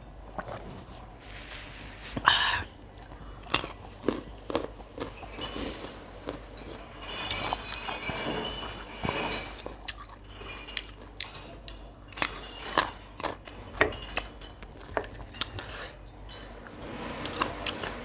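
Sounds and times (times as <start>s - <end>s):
person chewing and crunching food: 0.2s - 1.2s, 2.0s - 18.0s.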